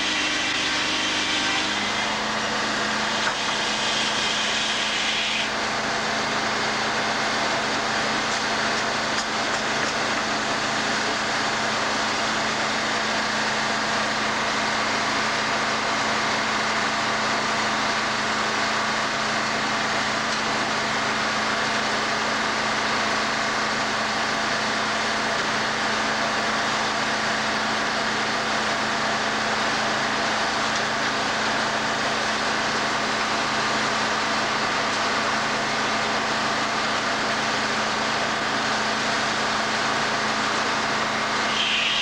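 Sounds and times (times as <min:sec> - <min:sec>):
sawmill saw humming: 0:00.0 - 0:42.0.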